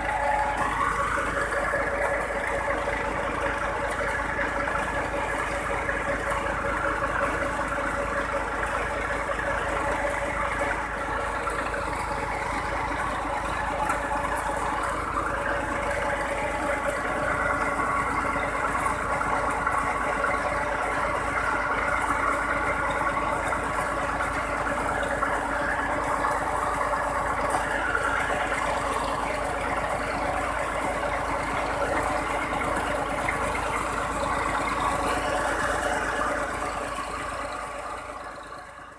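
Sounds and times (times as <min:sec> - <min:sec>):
pump engine running: 0:00.0 - 0:38.9.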